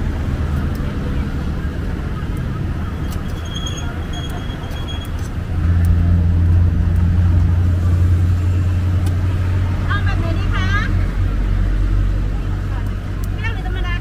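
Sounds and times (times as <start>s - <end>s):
low vehicle engine hum: 0.0s - 14.0s.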